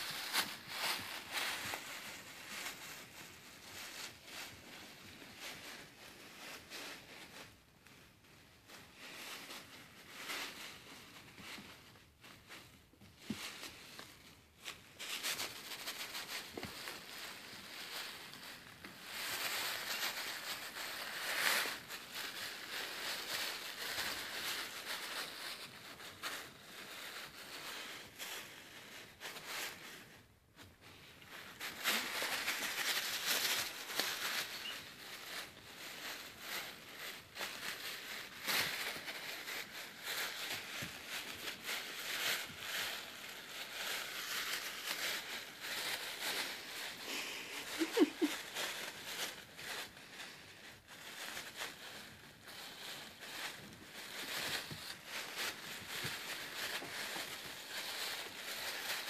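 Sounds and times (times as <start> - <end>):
plastic bag crinkling: 0.0 - 59.0.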